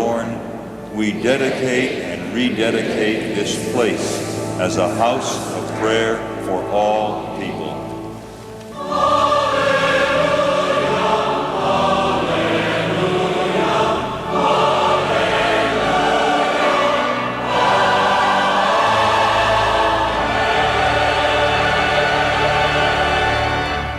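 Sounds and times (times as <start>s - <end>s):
choir singing: 0.0s - 23.9s.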